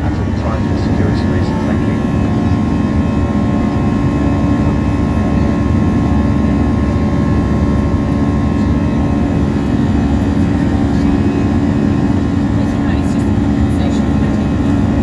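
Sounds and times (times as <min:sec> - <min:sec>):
airliner cabin engine noise: 0:00.0 - 0:15.0
constant hums: 0:00.0 - 0:15.0.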